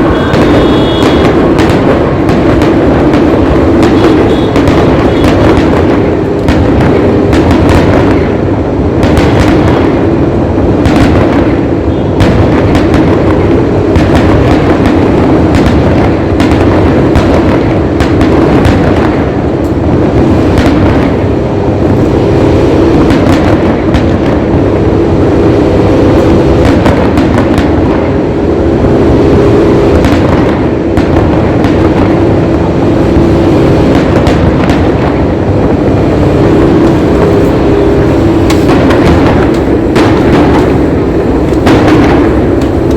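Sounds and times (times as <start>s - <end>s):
constant rumble: 0.0s - 42.9s
fireworks bursting and banging: 0.0s - 42.9s.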